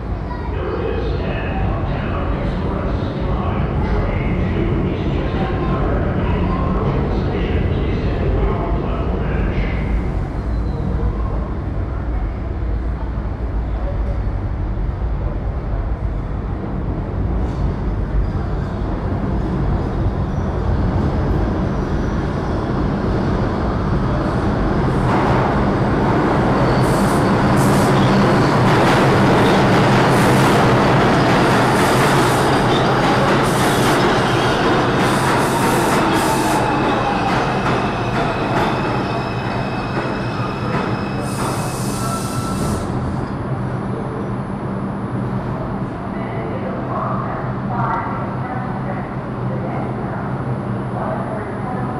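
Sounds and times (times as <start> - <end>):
falling whine of train: 0.0 - 51.9
subway train rumble: 0.0 - 51.9.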